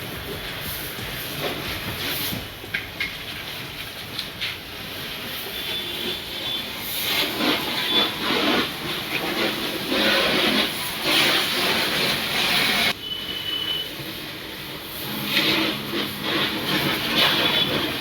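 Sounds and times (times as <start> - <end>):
pressure washer spraying: 0.0 - 18.0.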